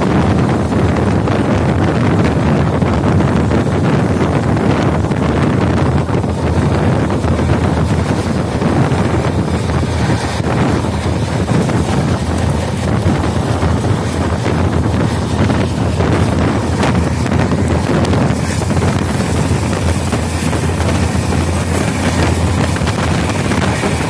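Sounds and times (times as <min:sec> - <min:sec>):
train rumbling over rails: 0:00.0 - 0:24.0
wind buffeting a microphone: 0:00.0 - 0:24.0.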